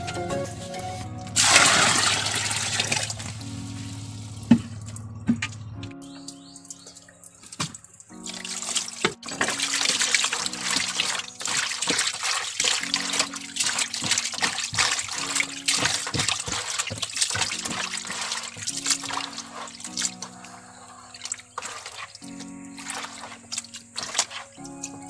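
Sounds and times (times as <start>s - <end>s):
background music: 0.0s - 25.0s
water sloshing and splashing: 1.3s - 25.0s.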